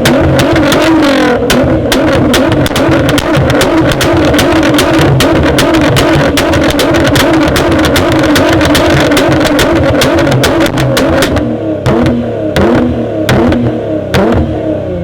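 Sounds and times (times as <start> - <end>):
exhaust popping and crackling: 0.0 - 14.7
car engine revving: 0.0 - 15.0
exhaust bangs: 0.0 - 15.0.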